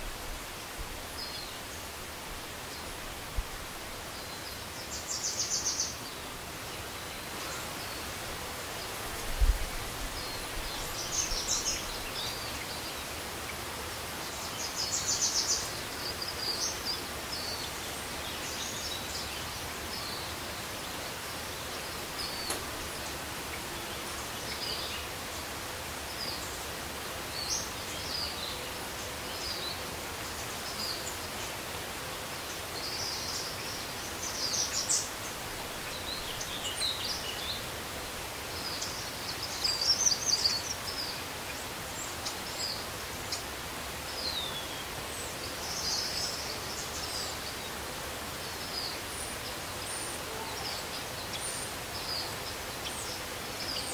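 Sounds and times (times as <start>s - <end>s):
outdoor background hiss: 0.0s - 53.9s.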